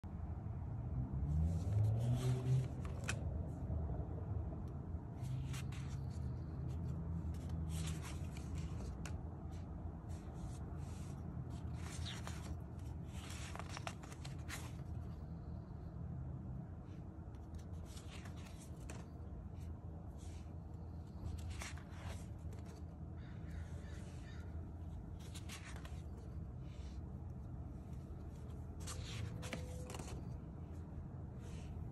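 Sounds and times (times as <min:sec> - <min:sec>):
low room rumble: 0:00.0 - 0:31.9
paper pages turning: 0:01.5 - 0:03.3, 0:05.2 - 0:15.5, 0:17.3 - 0:30.8.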